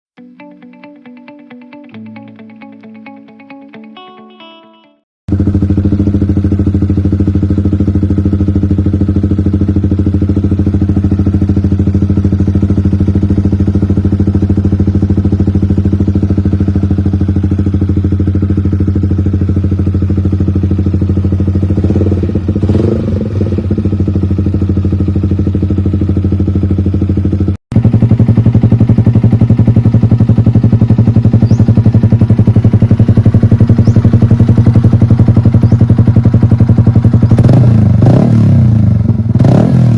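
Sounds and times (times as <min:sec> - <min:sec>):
motorcycle engine idling: 0:05.3 - 0:39.5.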